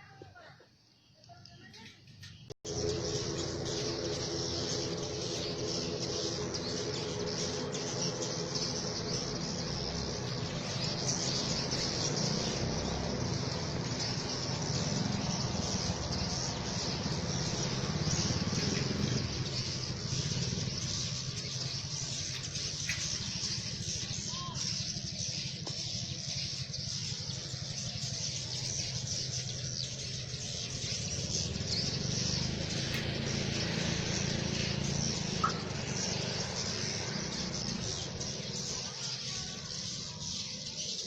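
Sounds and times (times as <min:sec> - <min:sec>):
swiftlets twittering: 0:02.7 - 0:40.2.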